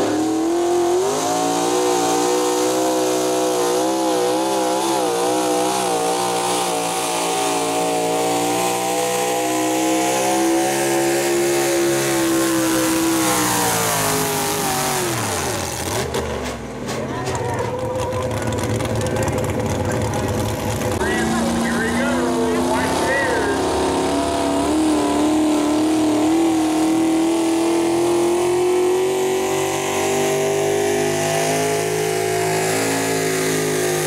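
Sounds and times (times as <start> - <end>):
pulling truck engine at full throttle: 0.0 - 34.0.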